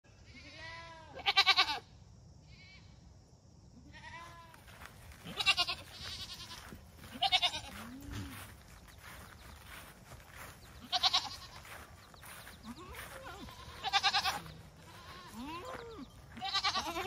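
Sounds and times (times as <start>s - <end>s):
goats bleating: 0.3s - 1.8s, 3.9s - 17.0s.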